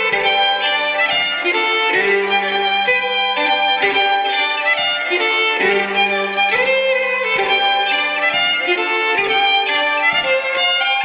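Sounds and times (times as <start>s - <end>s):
solo fiddle playing: 0.0s - 11.0s.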